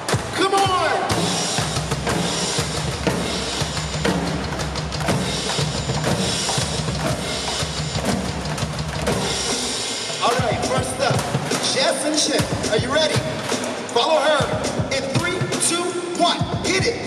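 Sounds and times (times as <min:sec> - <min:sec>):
drum-heavy music: 0:00.0 - 0:17.0.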